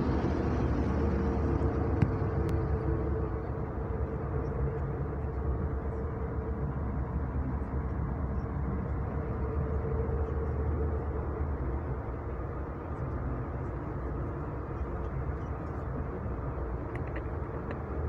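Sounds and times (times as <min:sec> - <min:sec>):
car road and engine noise: 0:00.0 - 0:18.0
faint steady hum: 0:00.0 - 0:18.0.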